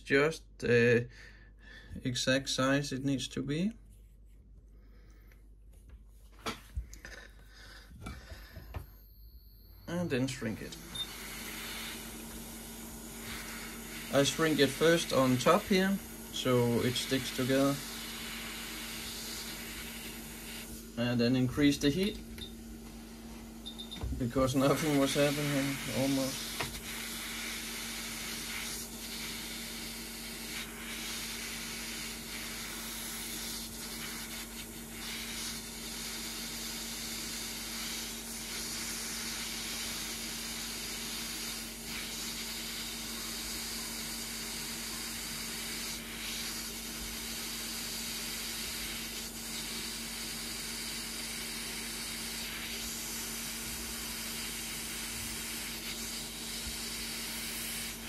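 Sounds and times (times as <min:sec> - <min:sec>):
heat gun blowing air: 0:09.8 - 0:58.0.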